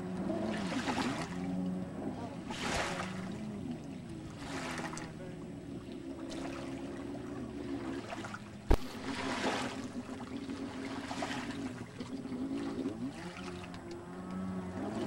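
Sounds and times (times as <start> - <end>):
small boat engine humming: 0.0 - 15.0
water splashing and sloshing: 0.0 - 15.0.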